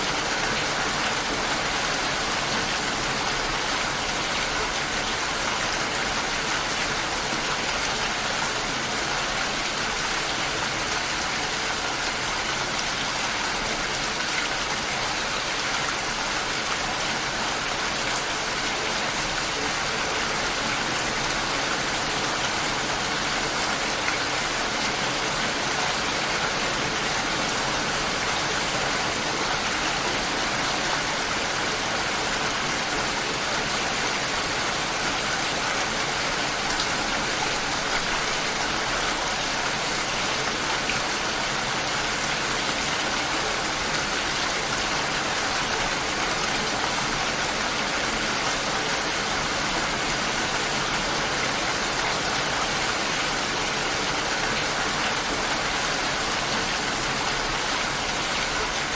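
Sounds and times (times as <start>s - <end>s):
light rain falling: 0.0s - 58.9s.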